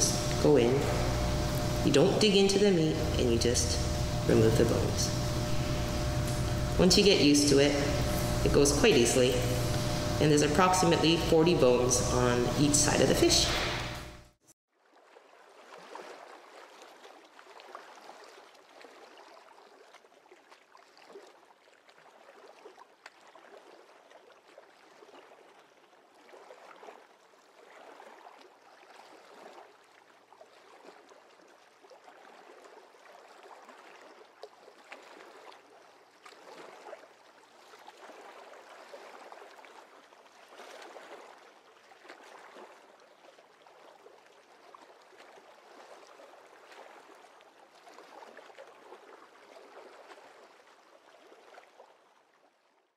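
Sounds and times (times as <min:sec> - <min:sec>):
faint running water: 0:00.0 - 0:14.3, 0:14.9 - 0:52.8.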